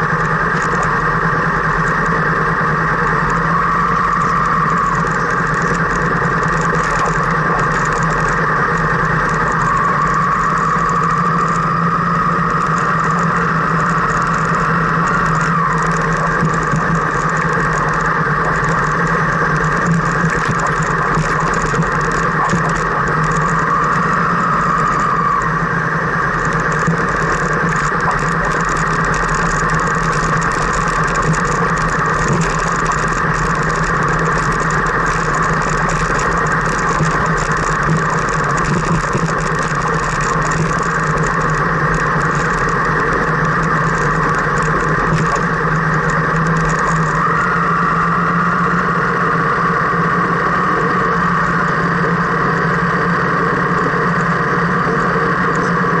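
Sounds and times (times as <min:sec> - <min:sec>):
car engine from inside: 0:00.0 - 0:56.0
road noise over rough surface: 0:00.0 - 0:56.0.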